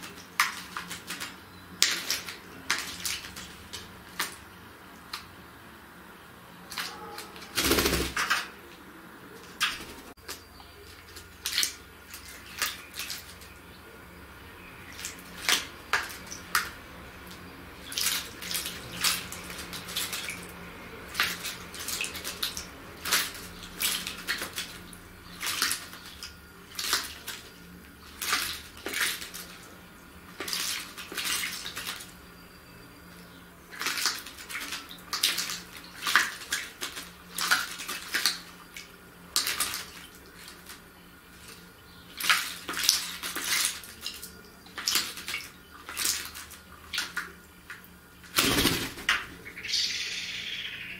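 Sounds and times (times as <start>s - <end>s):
bird splashing in water: 0.0s - 4.5s, 6.7s - 8.6s, 9.4s - 13.6s, 14.8s - 29.7s, 30.3s - 32.1s, 33.7s - 49.7s.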